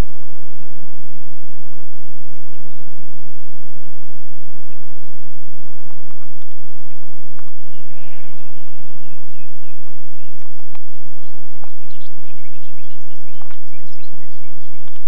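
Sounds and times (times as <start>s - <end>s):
steady low hum: 0.0s - 15.0s
songbirds chirping: 0.8s - 3.9s, 4.5s - 15.0s.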